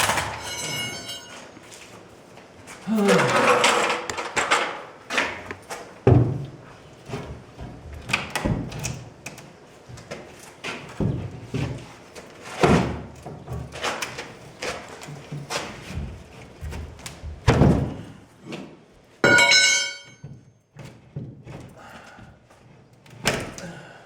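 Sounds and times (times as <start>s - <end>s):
knocks and thumps of building work: 2.7s - 23.9s.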